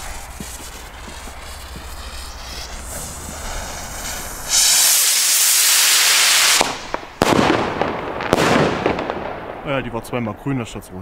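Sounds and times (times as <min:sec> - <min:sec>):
rocket lifting off with rushing hiss: 0:00.0 - 0:09.1.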